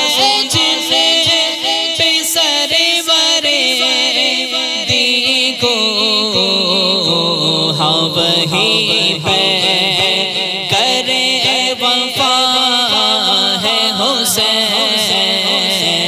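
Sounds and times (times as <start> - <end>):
backing vocals: 0.0 - 16.0
man chanting: 0.0 - 16.0.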